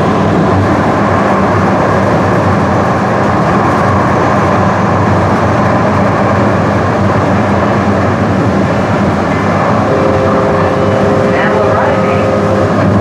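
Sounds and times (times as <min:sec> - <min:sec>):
low hum: 0:00.0 - 0:13.0
train wheels on rails: 0:00.0 - 0:13.0.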